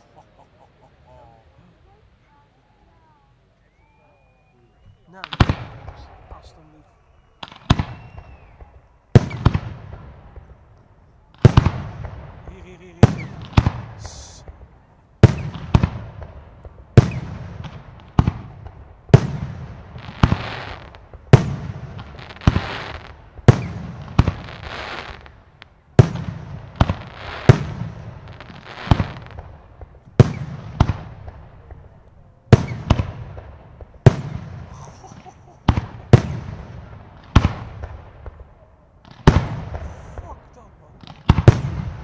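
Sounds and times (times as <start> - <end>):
fireworks bursting: 0.0 - 42.0
hissing crackle: 0.0 - 42.0.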